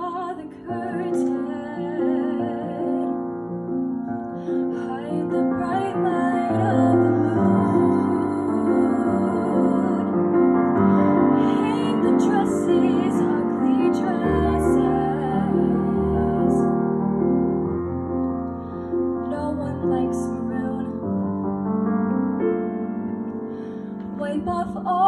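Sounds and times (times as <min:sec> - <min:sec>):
gentle piano ballad: 0:00.0 - 0:25.0.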